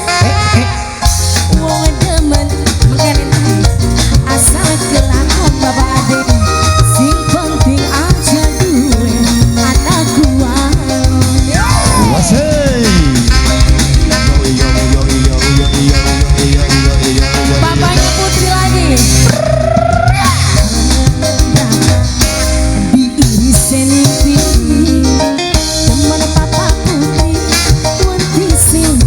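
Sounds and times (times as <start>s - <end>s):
drum and bass beat: 0.0s - 29.0s
gliding lead melody: 0.0s - 29.0s
live dangdut band music: 0.0s - 29.0s.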